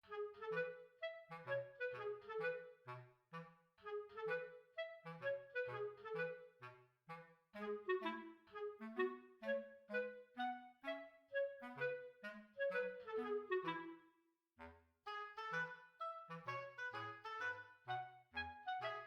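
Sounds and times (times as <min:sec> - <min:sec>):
bouncy woodwind tune: 0:00.0 - 0:19.0.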